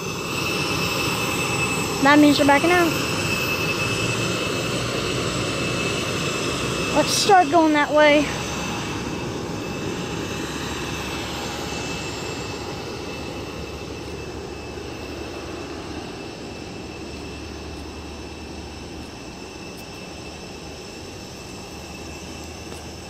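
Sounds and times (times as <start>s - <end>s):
airliner jet whine: 0.0s - 23.0s.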